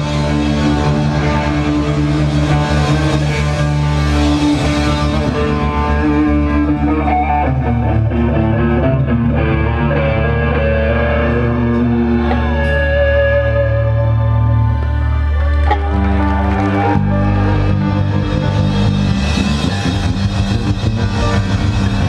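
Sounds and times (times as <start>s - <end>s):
electric guitar: 0.0s - 22.0s
rock band playing: 0.0s - 22.0s.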